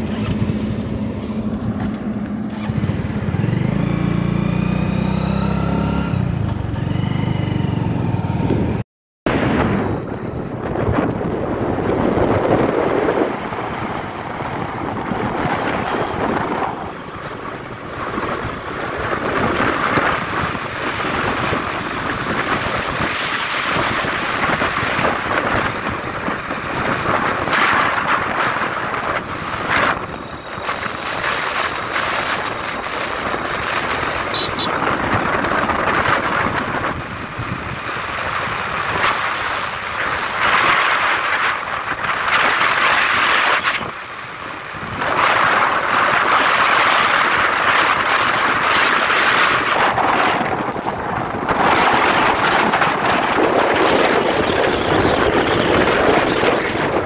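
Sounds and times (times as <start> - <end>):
motorcycle engine: 0.0 - 57.0
road noise: 0.0 - 57.0
wind rushing over microphone: 0.0 - 57.0.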